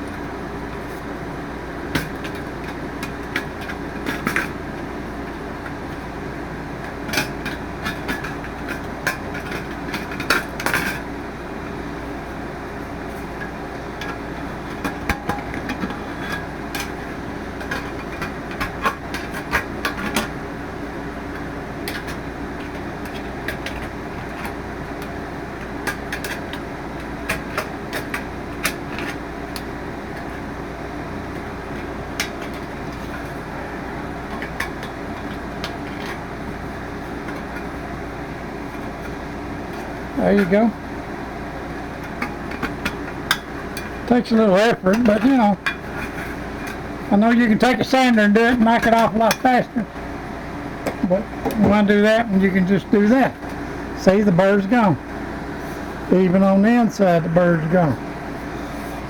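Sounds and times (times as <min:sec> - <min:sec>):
steady background hum: 0:00.0 - 0:59.0.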